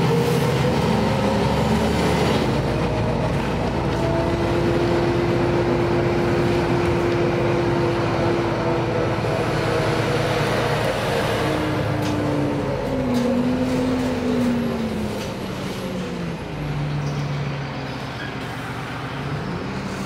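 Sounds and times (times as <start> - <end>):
bus diesel engine running: 0.0 - 20.0
road rumble: 0.0 - 20.0.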